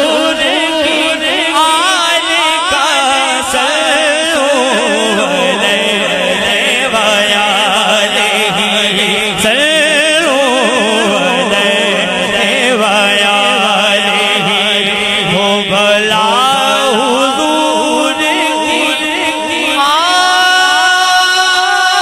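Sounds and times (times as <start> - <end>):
man singing through loudspeakers: 0.0 - 22.0.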